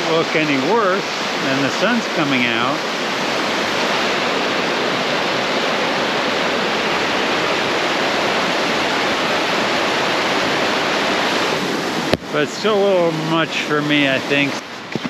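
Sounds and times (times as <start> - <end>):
rushing mountain brook roar: 0.0 - 15.0.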